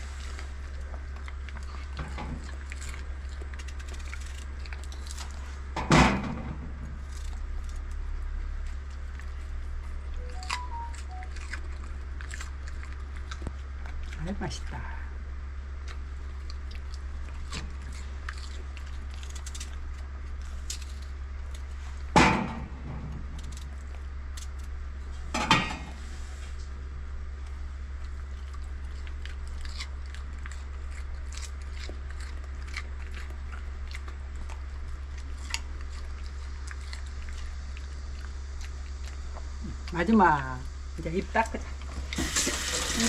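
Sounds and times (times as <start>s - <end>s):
dog chewing and crunching fruit: 0.0s - 25.3s, 25.9s - 43.0s
steady low hum: 0.0s - 43.0s.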